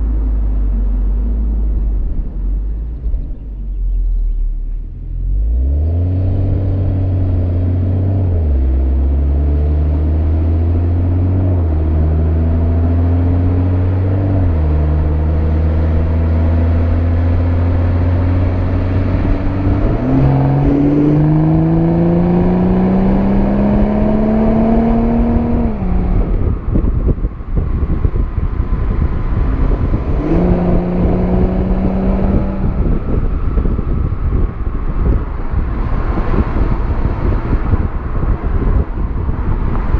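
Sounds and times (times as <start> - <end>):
car exhaust accelerating: 0.0 - 39.9
wind and road noise: 0.0 - 39.9.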